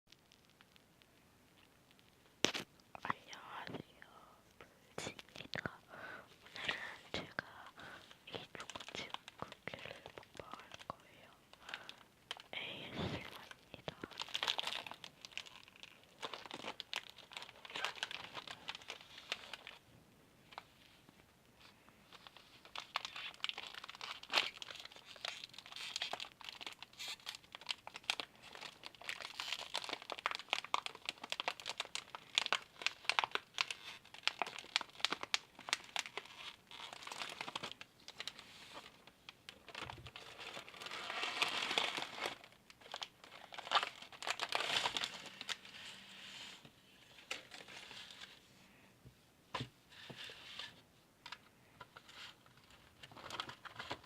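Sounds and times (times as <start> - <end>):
plastic wrapper crinkling: 0.1 - 4.3, 4.9 - 19.8, 21.6 - 48.4, 50.2 - 54.0.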